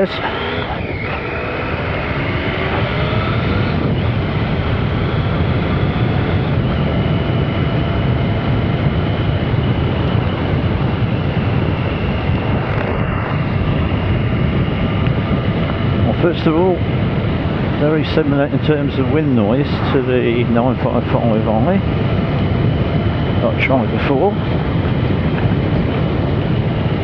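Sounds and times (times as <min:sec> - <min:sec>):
wind noise rushing: 0:00.0 - 0:27.0.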